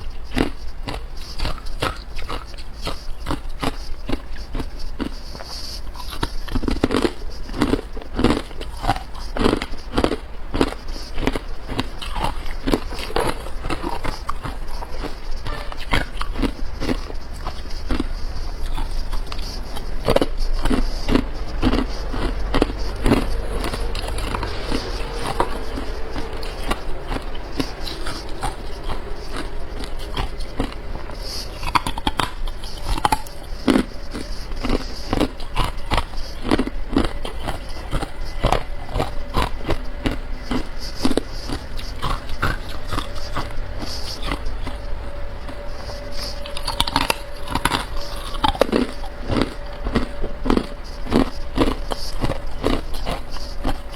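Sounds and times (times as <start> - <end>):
ice crunching being chewed: 0.0 - 53.9.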